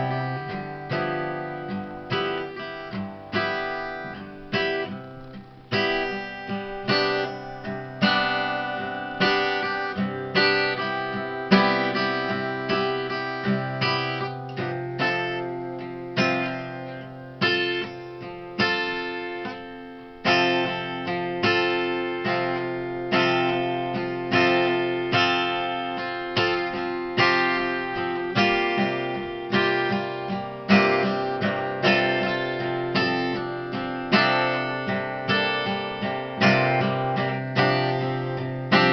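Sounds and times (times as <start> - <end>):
acoustic guitar strummed chords: 0.0 - 38.9.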